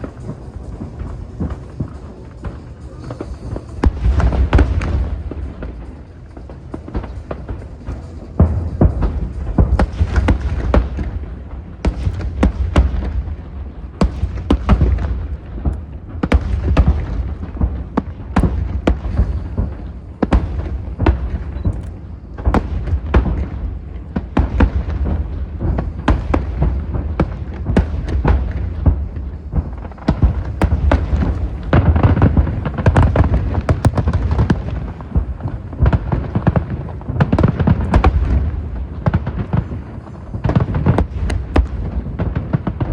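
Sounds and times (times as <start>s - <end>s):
booming shells rumble: 0.0s - 42.9s
fireworks bangs and cracks: 0.0s - 42.9s.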